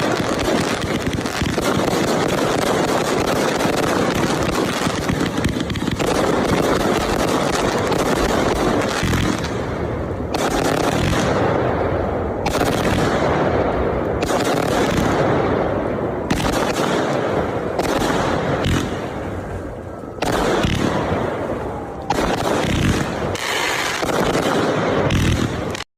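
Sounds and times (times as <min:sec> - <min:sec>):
fireworks crackling and booming: 0:00.0 - 0:25.9.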